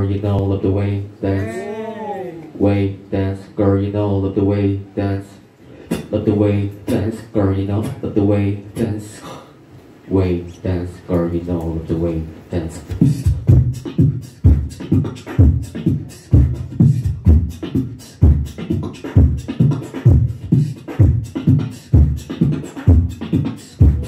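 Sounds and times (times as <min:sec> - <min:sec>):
person beatboxing into microphone: 0:02.4 - 0:09.6, 0:10.2 - 0:24.0.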